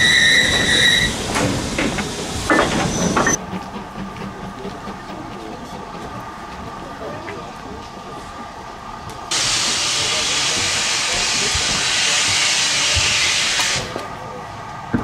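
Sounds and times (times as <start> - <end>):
steam locomotive venting steam: 0.0 - 8.4, 9.3 - 14.5.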